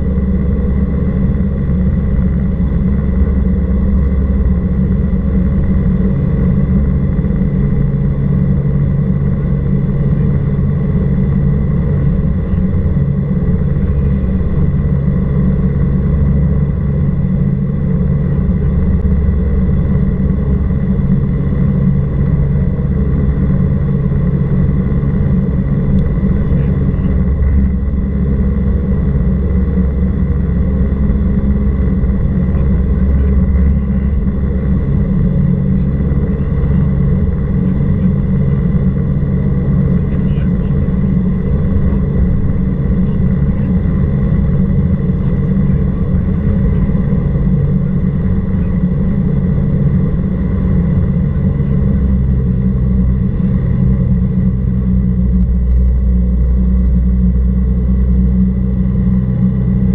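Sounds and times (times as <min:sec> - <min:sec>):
small plane engine droning: 0:00.0 - 0:59.9.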